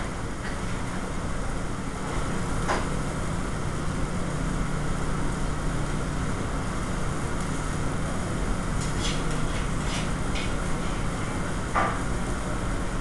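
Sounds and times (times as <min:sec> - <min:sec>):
exhaust hood fans droning: 0:00.0 - 0:13.0.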